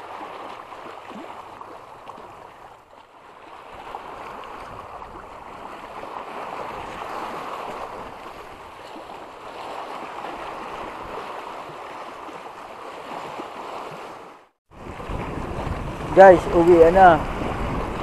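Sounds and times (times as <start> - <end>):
small sea waves: 0.0 - 18.0.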